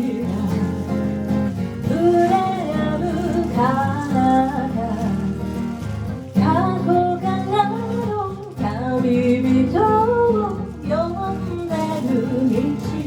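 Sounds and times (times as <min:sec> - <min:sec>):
guitar accompaniment: 0:00.0 - 0:13.0
woman singing pop melody: 0:00.0 - 0:13.0.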